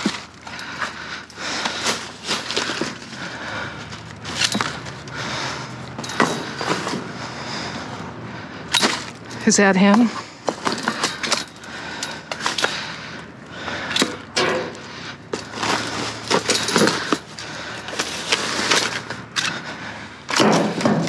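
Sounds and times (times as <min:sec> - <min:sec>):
knocks and clinks of items: 0:00.0 - 0:07.2, 0:08.7 - 0:19.7, 0:20.3 - 0:21.0.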